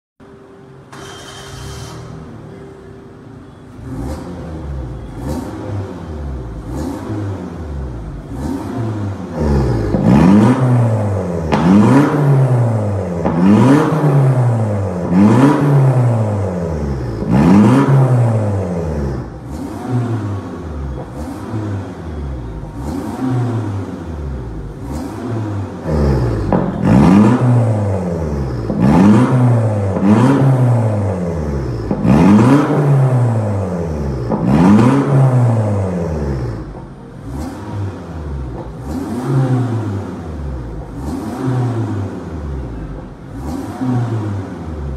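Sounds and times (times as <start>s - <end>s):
car engine revving: 3.7s - 44.9s.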